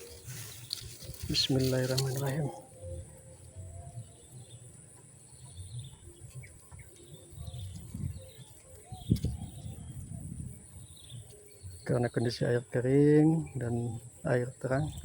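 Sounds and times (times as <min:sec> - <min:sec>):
faint bird chirps and coos: 0:00.0 - 0:15.0.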